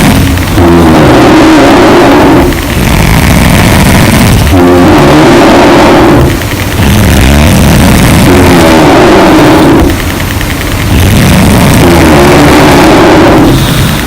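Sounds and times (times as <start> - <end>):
loud rattling snoring: 0.0 - 14.0.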